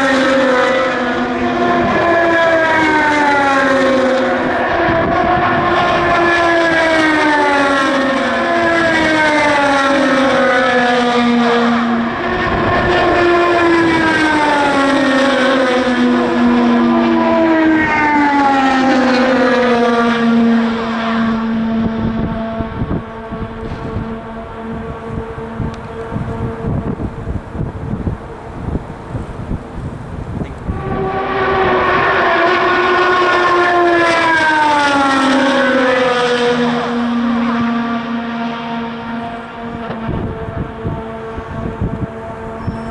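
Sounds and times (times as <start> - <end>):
race cars passing at speed: 0.0 - 42.9.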